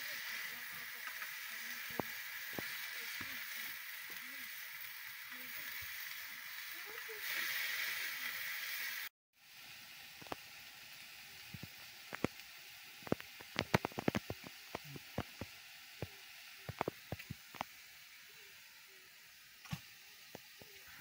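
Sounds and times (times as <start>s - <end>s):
quiet steady sizzle: 0.0s - 21.0s.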